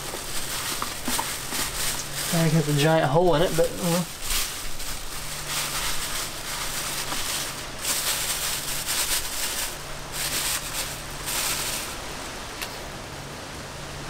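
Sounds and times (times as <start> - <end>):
plastic bag rustling and crinkling: 0.0 - 12.8.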